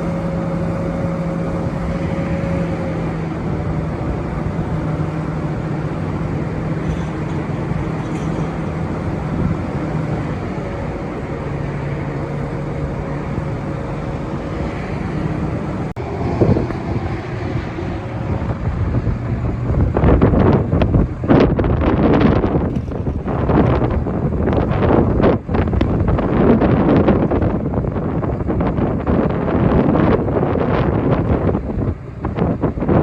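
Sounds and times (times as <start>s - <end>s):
diesel truck engine running: 0.0s - 33.0s
wind gusts on microphone: 0.0s - 33.0s.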